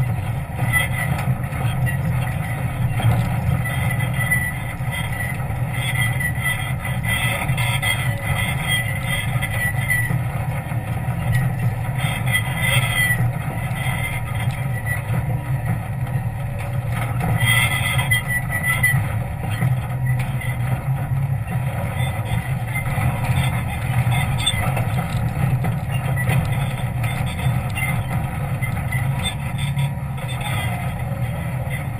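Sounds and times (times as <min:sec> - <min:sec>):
high-pitched squeaks: 0:00.0 - 0:15.7, 0:17.1 - 0:31.9
engine droning under load: 0:00.0 - 0:31.9.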